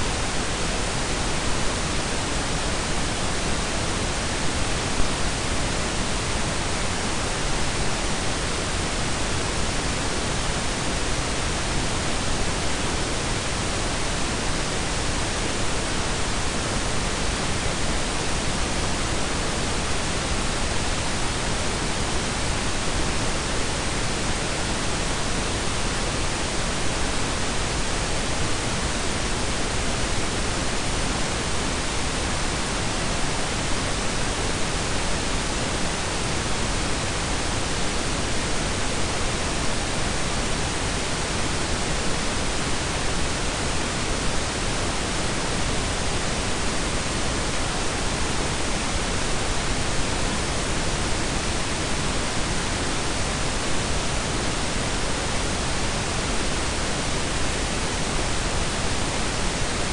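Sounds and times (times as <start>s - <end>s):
steady rumbling noise hiss: 0.0s - 59.9s.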